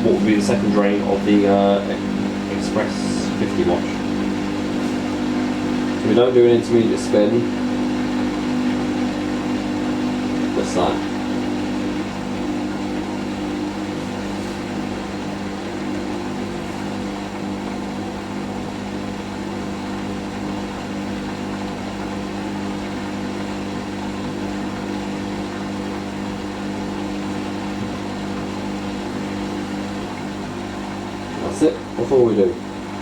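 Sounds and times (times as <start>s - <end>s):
washing machine drain pump humming: 0.0s - 33.0s.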